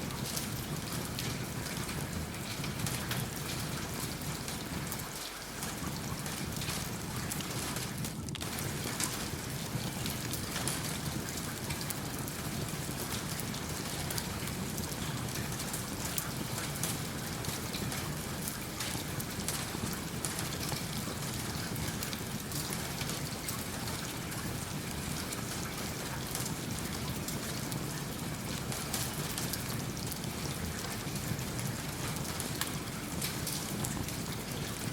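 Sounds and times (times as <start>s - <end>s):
steady rain with drop ticks: 0.0s - 34.9s
wood fire crackling: 0.0s - 34.9s.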